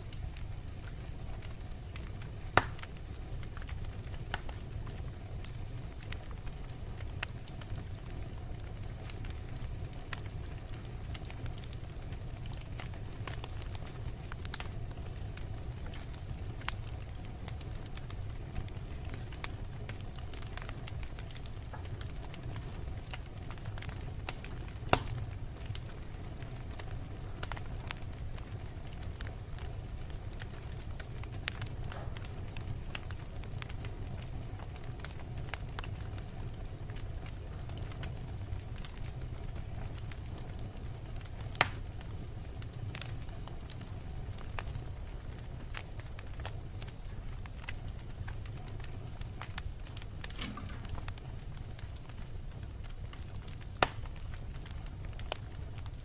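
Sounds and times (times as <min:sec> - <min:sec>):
fire crackles and pop: 0:00.0 - 0:56.0
flames rumbling: 0:00.0 - 0:56.0.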